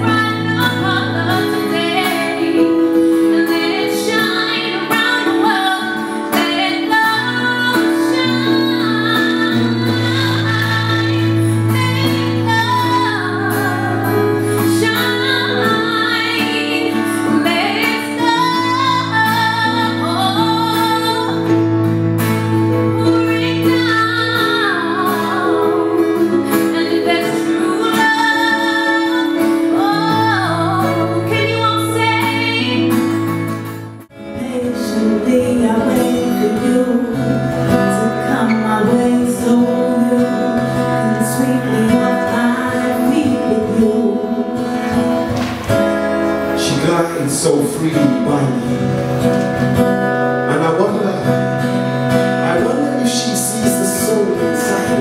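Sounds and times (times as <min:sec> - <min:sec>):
woman singing live: 0:00.0 - 0:46.3, 0:51.2 - 0:55.0
acoustic guitar: 0:00.0 - 0:55.0
keyboard chords: 0:00.0 - 0:55.0
strummed acoustic guitar: 0:00.0 - 0:55.0.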